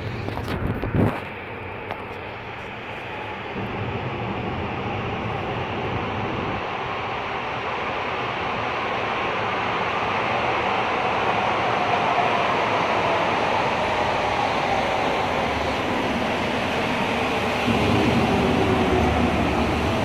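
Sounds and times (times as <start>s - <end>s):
deep train rumble: 0.0s - 20.0s
train arriving with falling whine: 0.0s - 20.0s.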